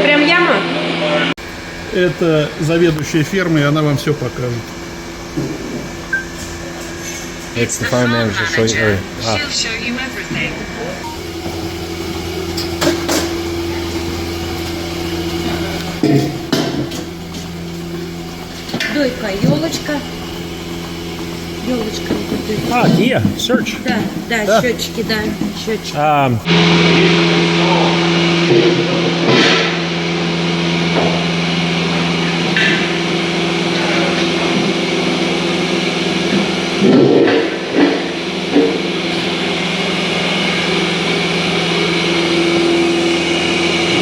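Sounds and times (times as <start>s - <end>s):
low machinery hum: 0.0s - 36.9s.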